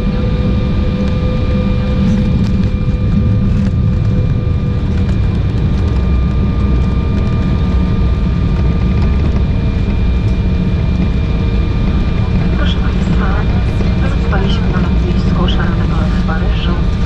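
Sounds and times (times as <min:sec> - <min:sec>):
airliner cabin low rumble: 0:00.0 - 0:17.0
jet engine whine tones: 0:00.0 - 0:17.0.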